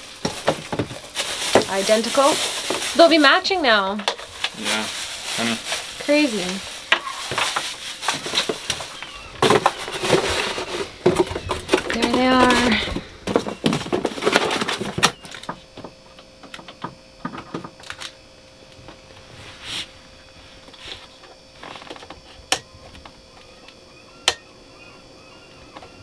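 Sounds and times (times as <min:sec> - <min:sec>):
cardboard and plastic rustling: 0:00.0 - 0:23.2
faint steady hum: 0:00.0 - 0:26.0.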